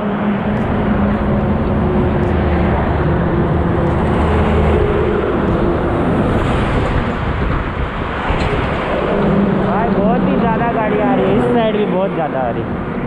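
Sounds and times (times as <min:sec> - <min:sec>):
heavy trucks passing: 0:00.0 - 0:13.0.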